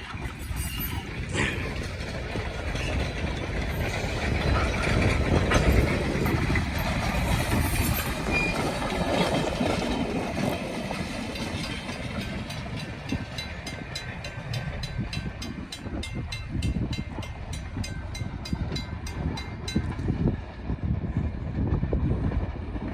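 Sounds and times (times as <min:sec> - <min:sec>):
steam train low rumble: 0:00.0 - 0:22.9.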